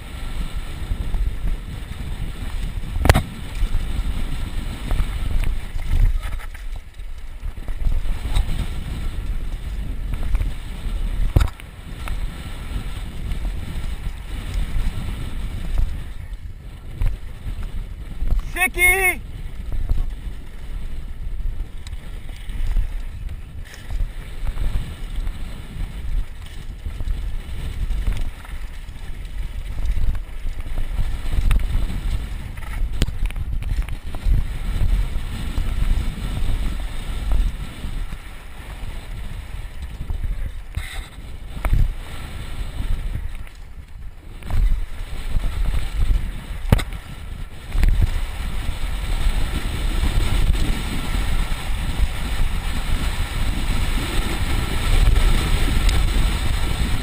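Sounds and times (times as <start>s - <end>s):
mountain bike rumbling on dirt: 0.0s - 57.0s
wind on microphone: 0.0s - 57.0s.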